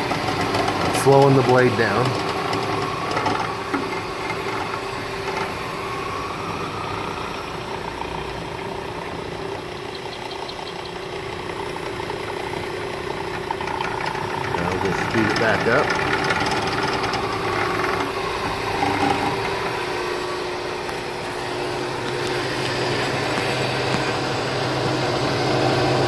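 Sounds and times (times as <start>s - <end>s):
band saw motor humming: 0.0s - 26.0s.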